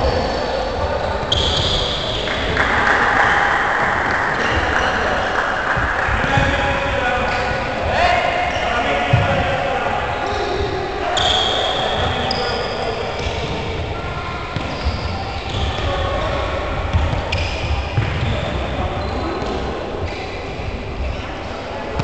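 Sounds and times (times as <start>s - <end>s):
balls bouncing on court: 1.2s - 9.6s, 10.3s - 20.2s.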